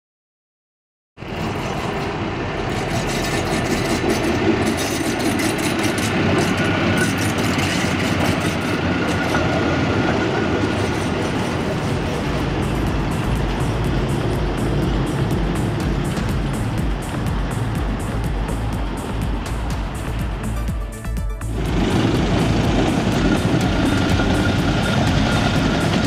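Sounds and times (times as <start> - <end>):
truck engine: 1.2 - 20.7, 21.4 - 26.0
wheels running on rails: 1.2 - 20.7, 21.4 - 26.0.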